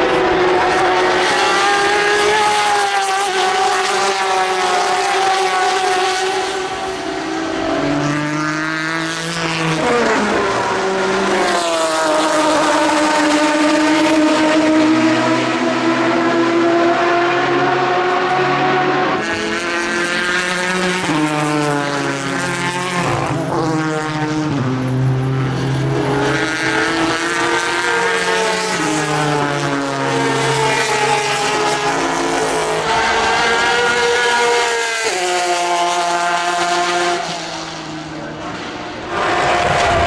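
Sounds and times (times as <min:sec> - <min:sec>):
race car engines passing: 0:00.0 - 0:40.0.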